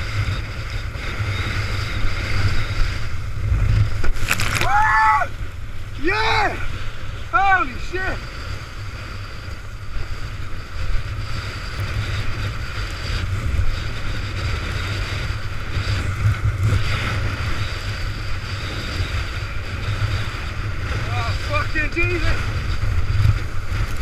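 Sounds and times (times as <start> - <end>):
hiss of spray and rough sea: 0.0 - 24.0
wind buffeting microphone: 0.0 - 24.0.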